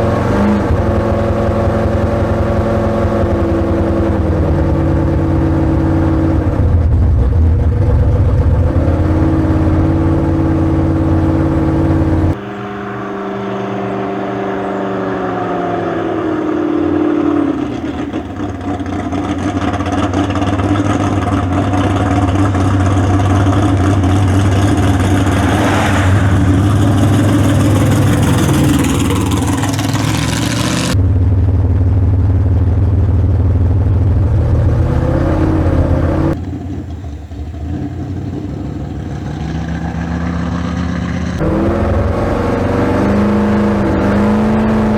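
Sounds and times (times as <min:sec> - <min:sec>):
drag car engine idling and revving: 0:00.0 - 0:44.9.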